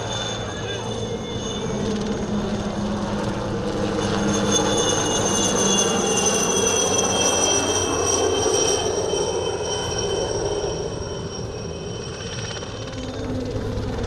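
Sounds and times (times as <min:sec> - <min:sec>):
helicopter engine and rotor noise: 0:00.0 - 0:14.0
helicopter turbine whine: 0:00.0 - 0:14.0.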